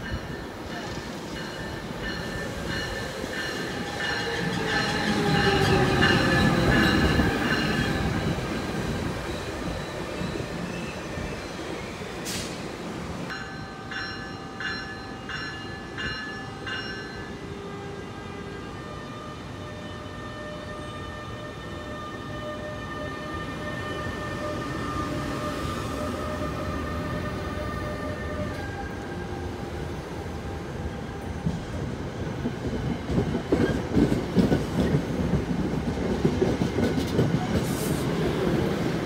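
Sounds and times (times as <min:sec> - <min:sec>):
train rumbling: 0:00.0 - 0:18.8, 0:21.8 - 0:39.0.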